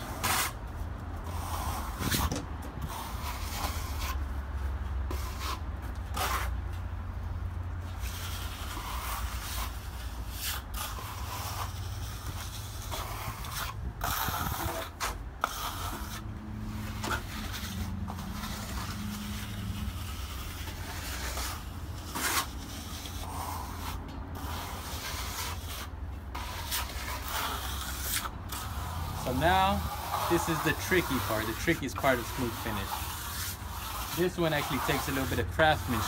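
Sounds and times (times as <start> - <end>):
trowel scraping wet plaster: 0.0 - 4.4, 5.0 - 6.6, 7.8 - 36.0.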